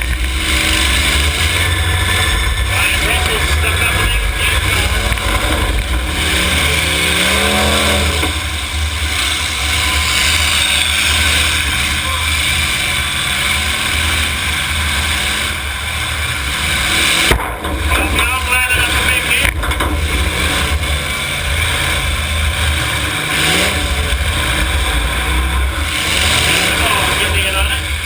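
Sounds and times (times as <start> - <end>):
bending pitched tone: 0.0 - 27.9
car engines revving loudly: 0.0 - 28.0.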